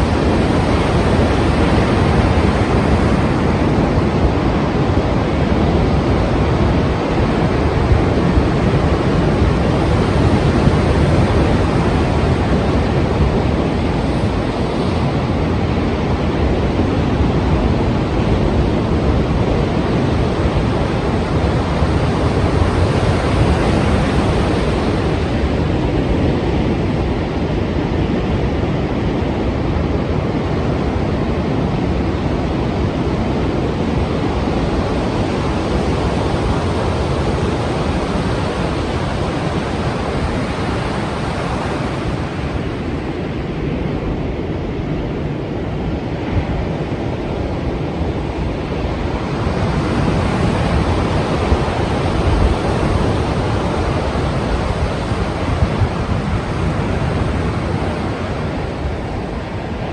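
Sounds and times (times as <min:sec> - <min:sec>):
sea waves and surf: 0:00.0 - 0:59.9.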